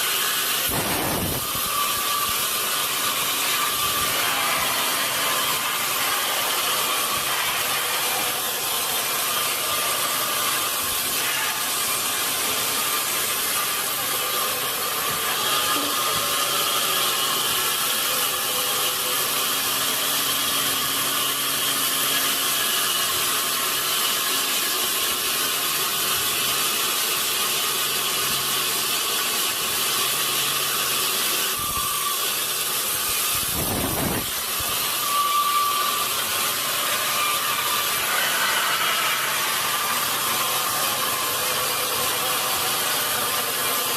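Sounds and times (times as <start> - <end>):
saw grinding through log: 0.0 - 43.9.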